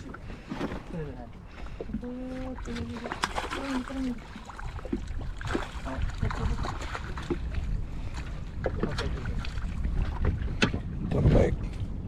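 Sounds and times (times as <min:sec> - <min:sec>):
knocks and splashes: 0:00.0 - 0:12.0
water lapping against boat hull: 0:00.0 - 0:12.0
wind buffeting microphone: 0:00.0 - 0:12.0.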